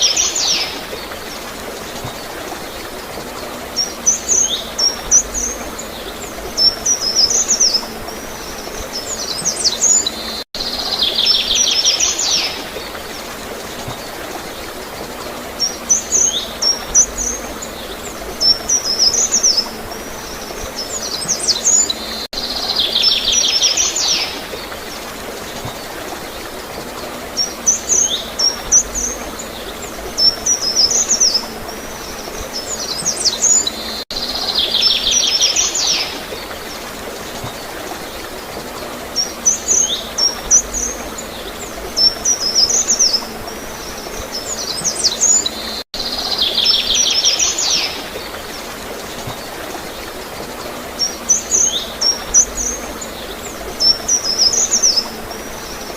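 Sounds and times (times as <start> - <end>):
songbirds chirping: 0.0 - 55.9
water gurgling: 0.0 - 55.9.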